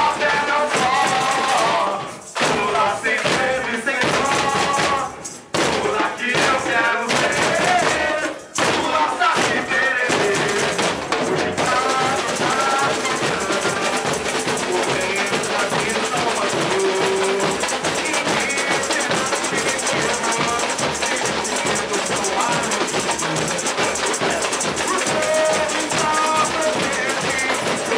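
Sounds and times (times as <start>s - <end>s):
crowd singing along: 0.0s - 27.9s
samba percussion band: 0.0s - 27.9s.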